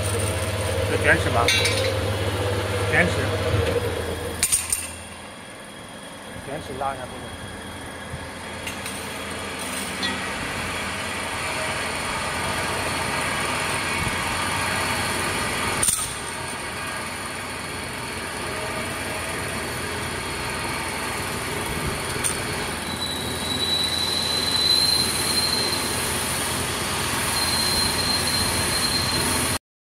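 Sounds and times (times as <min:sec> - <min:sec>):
thin high whine: 0:00.0 - 0:17.7, 0:21.8 - 0:29.6
factory machinery running: 0:00.0 - 0:29.6.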